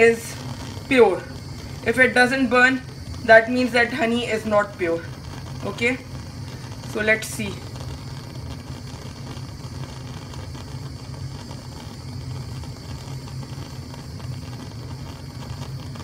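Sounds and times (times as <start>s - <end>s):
gas stove burner flame rumbling: 0.0s - 16.0s.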